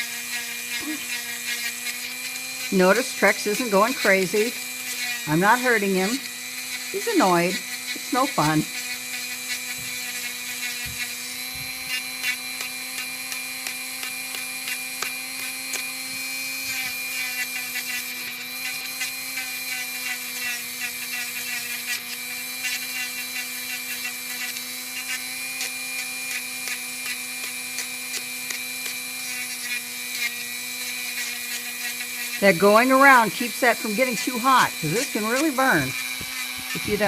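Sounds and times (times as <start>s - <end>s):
rotary tool grinding: 0.0s - 37.0s
scratchy clicks on nail: 0.0s - 37.0s.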